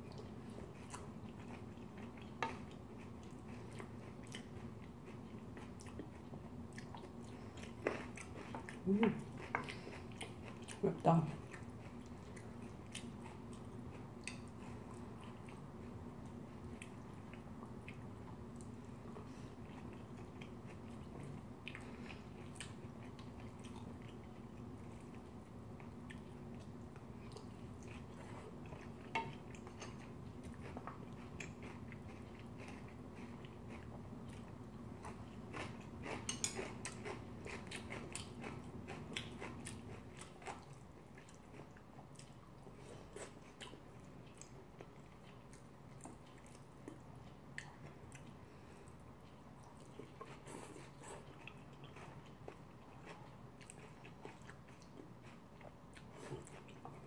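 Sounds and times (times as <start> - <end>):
chewing and wet mouth sounds: 0.0 - 57.0
low steady hum: 0.0 - 57.0.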